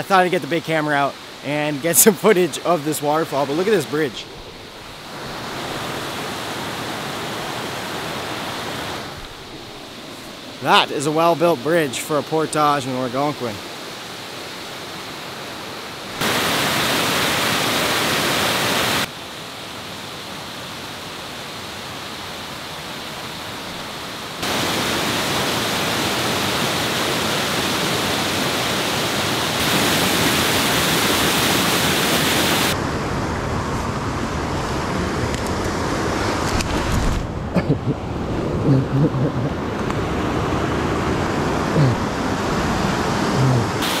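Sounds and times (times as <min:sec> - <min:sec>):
waterfall rushing: 0:00.0 - 0:36.5, 0:38.0 - 0:44.0.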